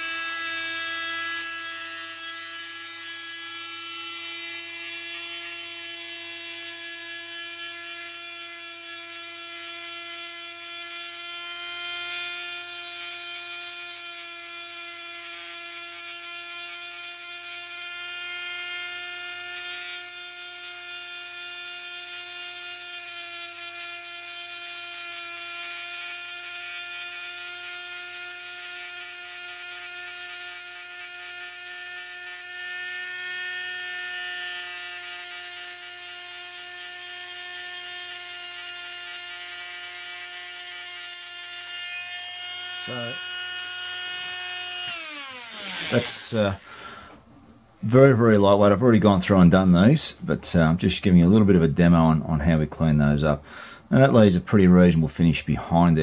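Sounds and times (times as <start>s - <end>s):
rotary tool grinding: 0.0s - 46.8s.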